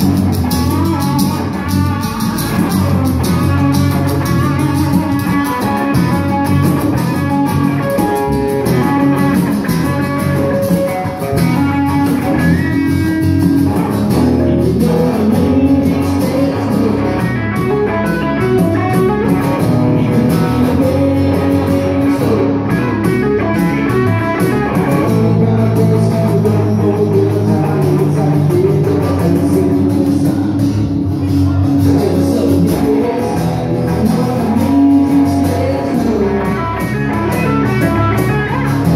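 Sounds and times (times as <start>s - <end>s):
bass guitar: 0.0s - 38.9s
cajon drum: 0.0s - 38.9s
electric guitar: 0.0s - 38.9s
strummed acoustic guitar: 0.0s - 38.9s.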